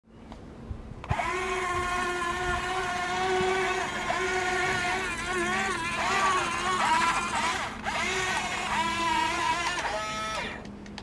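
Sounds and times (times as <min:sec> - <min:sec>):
toy excavator motors whining: 0:01.0 - 0:10.7.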